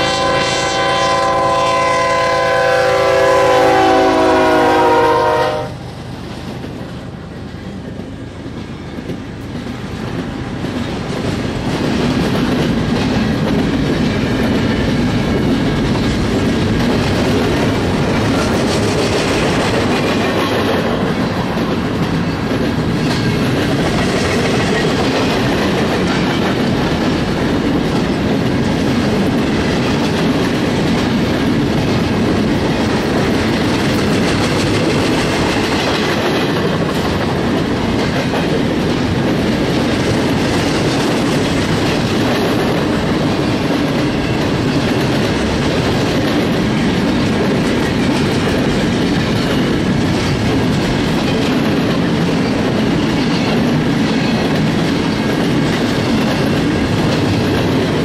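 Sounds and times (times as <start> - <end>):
freight train rolling past: 0.0 - 58.0
wheels clacking over rail joints: 7.6 - 58.0.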